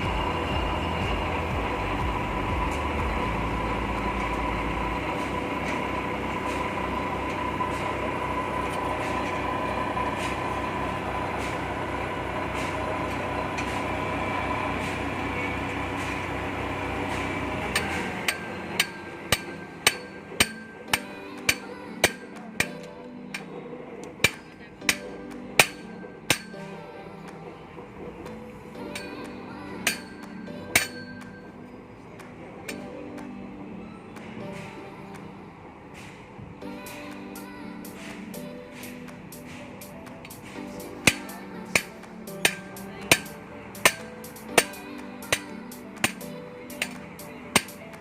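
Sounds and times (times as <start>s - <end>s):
hammer striking metal: 0.0s - 26.8s, 28.8s - 31.5s, 36.9s - 48.0s
heavy machine humming: 0.0s - 48.0s.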